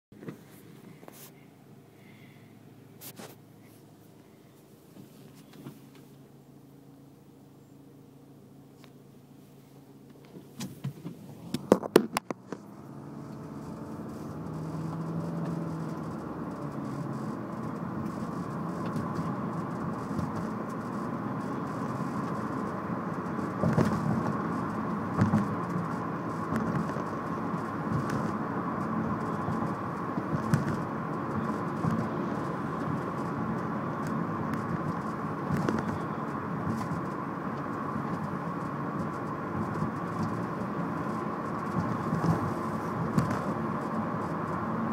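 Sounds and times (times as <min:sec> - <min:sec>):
car engine running: 0:00.1 - 0:44.9.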